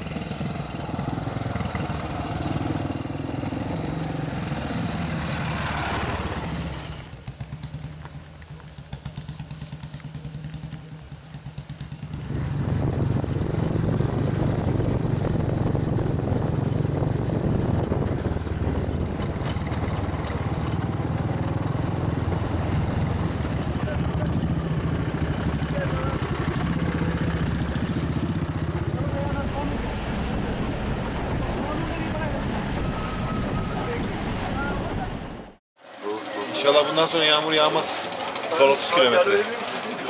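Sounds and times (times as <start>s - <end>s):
motorcycle engines running: 0.0s - 35.6s, 36.4s - 40.0s.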